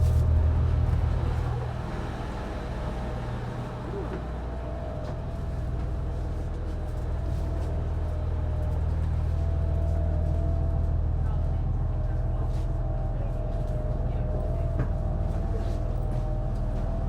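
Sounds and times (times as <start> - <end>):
train engine drone: 0.0 - 17.0.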